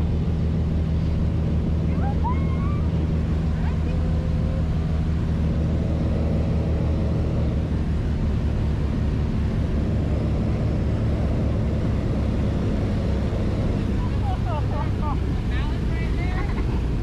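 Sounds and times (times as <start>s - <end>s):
propeller plane engines droning: 0.0s - 17.0s.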